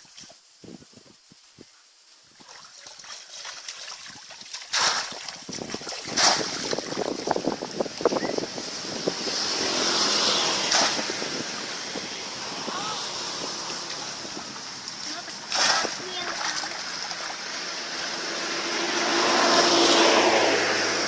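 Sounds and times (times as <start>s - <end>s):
water splashing and sloshing: 2.3s - 20.6s.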